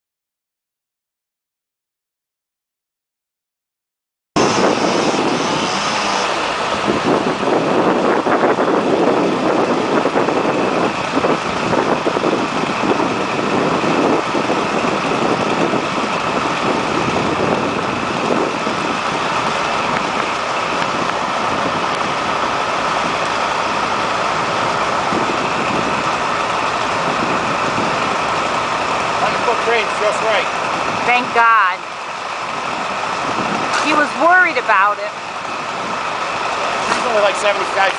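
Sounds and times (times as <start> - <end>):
heavy equipment engine idling: 4.4 - 37.9.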